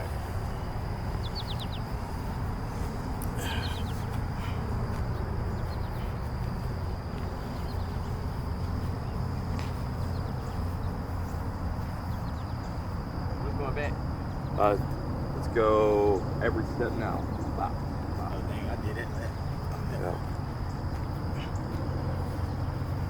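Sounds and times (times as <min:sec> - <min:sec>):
bird chirping: 0:00.0 - 0:23.0
high insect drone: 0:00.0 - 0:23.0
low rumble of wind or traffic: 0:00.0 - 0:23.0.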